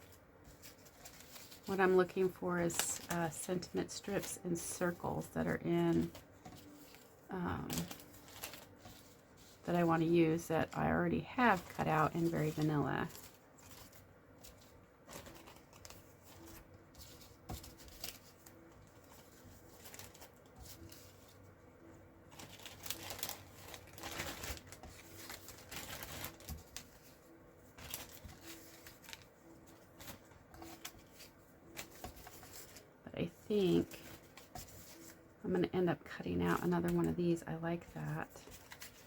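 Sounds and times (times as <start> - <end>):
cardstock pieces shuffled by hand: 0.0 - 21.5, 22.2 - 35.2, 36.0 - 39.0.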